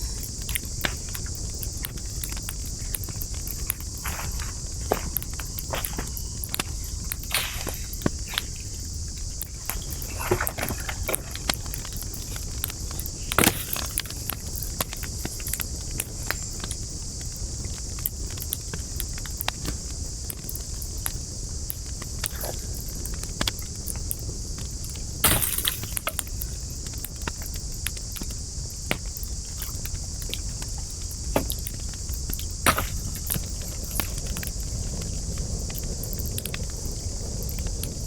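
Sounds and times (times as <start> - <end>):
campfire crackling and popping: 0.0 - 38.0
low rumble of fire: 0.0 - 38.0.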